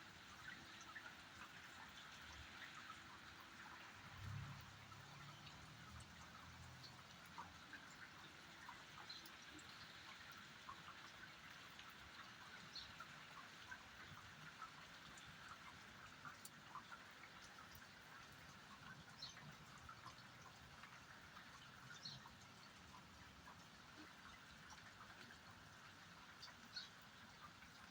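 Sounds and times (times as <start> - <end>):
light rain: 0.0 - 27.9.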